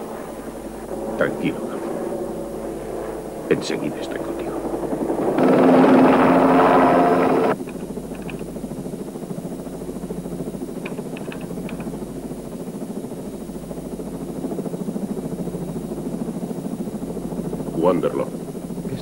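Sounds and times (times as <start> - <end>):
helicopter rotor beat: 0.0 - 19.0.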